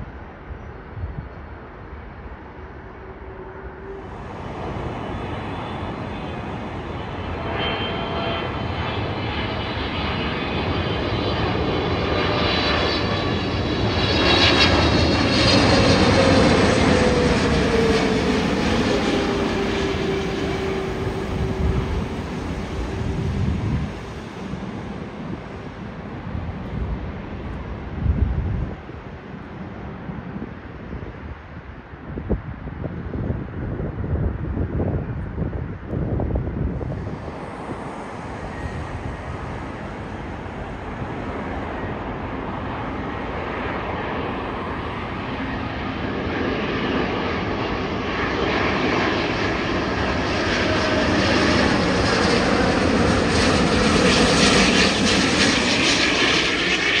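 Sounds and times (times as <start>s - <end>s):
jet airliner passing overhead: 0.0s - 57.0s
jet engine whine dropping in pitch: 0.4s - 57.0s.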